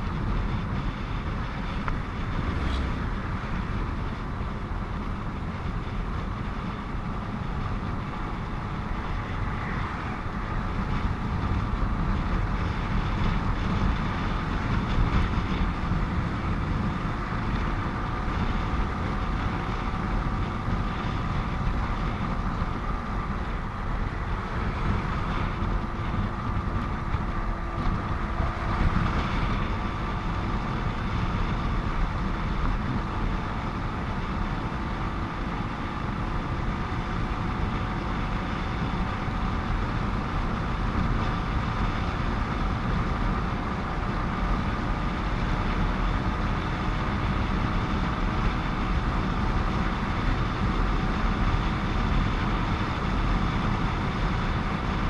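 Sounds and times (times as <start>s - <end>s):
heavy traffic rumble: 0.0s - 55.0s
motorcycle engine: 0.0s - 55.0s
tyre noise on road: 0.0s - 55.0s.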